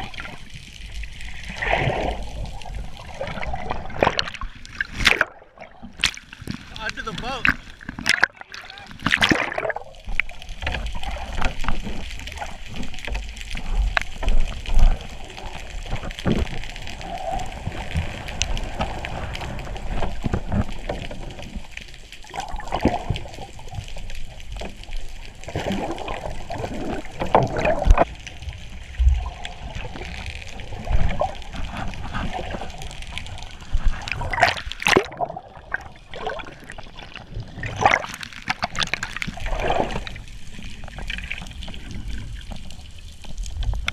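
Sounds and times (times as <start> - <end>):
sea water sloshing and splashing: 0.0 - 43.9.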